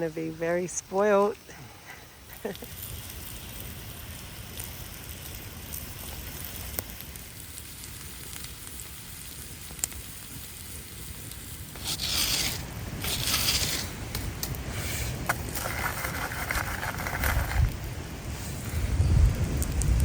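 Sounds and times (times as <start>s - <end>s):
pancake batter sizzling: 0.0s - 20.0s.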